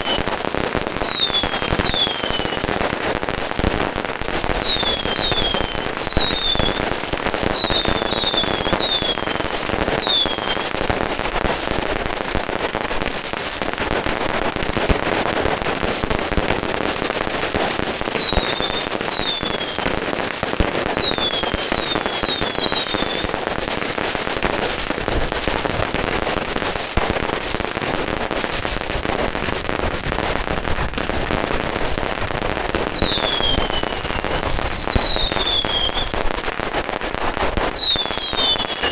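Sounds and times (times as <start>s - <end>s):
firecrackers crackling: 0.0s - 38.9s
whistling fireworks: 0.0s - 38.9s.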